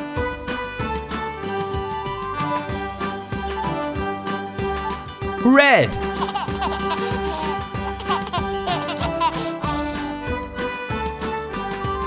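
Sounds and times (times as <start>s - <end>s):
plucked string tune with bass beat: 0.0s - 12.0s.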